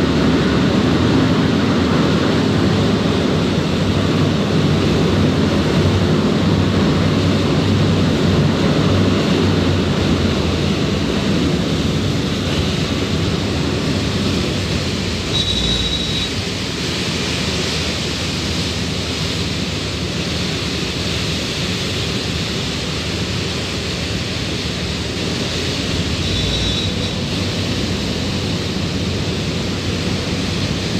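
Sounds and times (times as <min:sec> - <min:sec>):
churning wake water rushing: 0:00.0 - 0:30.9
low engine hum: 0:00.0 - 0:30.9.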